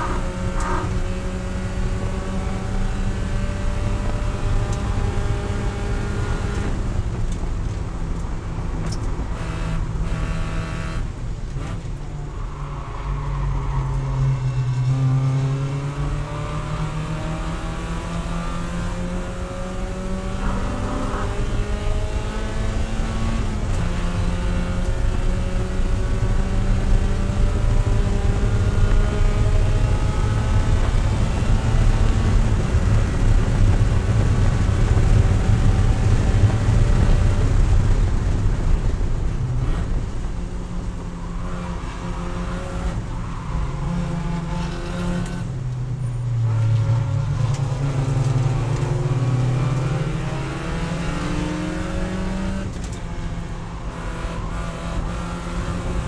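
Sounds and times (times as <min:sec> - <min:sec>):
race car engine revving: 0:00.0 - 0:07.2, 0:14.1 - 0:45.7, 0:46.4 - 0:56.0.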